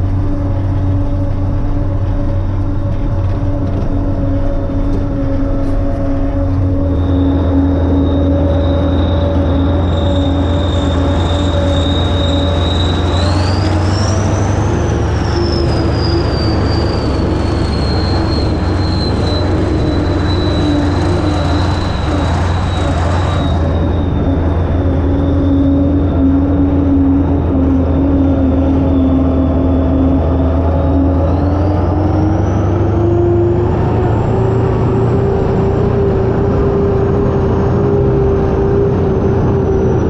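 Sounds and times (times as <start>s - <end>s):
high engine whine: 0.0s - 40.0s
tractor diesel engine running: 0.0s - 40.0s.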